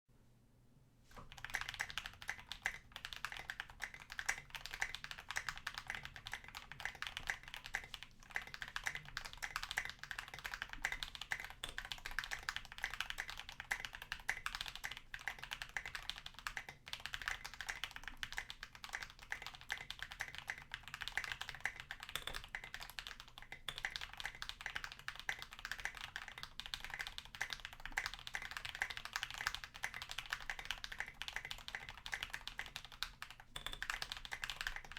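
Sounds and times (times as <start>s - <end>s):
fast typing on mechanical keyboard: 1.2s - 34.9s.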